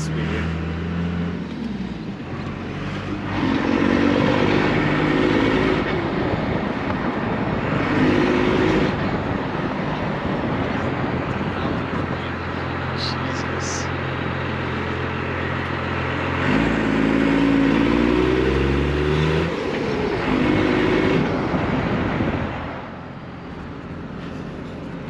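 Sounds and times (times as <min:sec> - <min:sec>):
diesel truck accelerating: 0:00.0 - 0:25.0
road and wind noise: 0:00.0 - 0:25.0.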